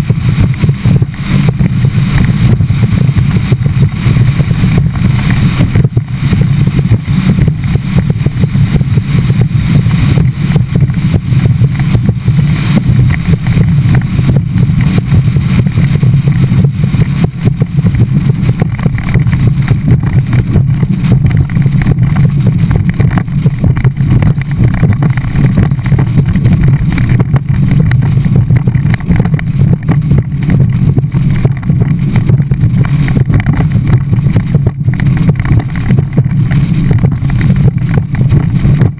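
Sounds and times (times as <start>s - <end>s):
boat engine and hull noise: 0.0s - 38.9s
wind buffeting microphone: 0.0s - 38.9s.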